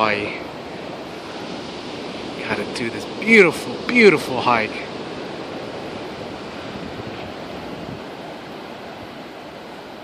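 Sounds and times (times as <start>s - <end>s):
wind rushing: 0.0s - 9.2s
distant ocean surf breaking: 0.0s - 10.0s.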